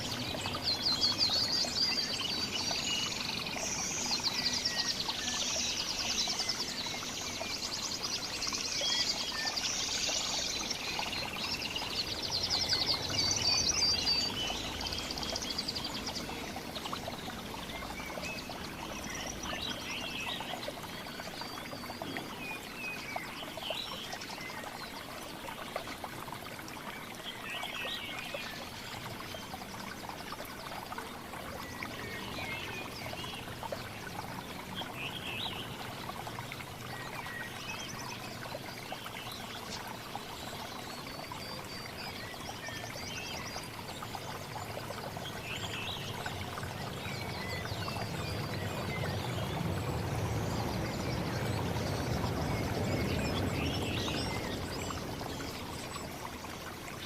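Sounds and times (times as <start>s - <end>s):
running water: 0.0s - 57.0s
songbirds chirping: 0.0s - 57.0s.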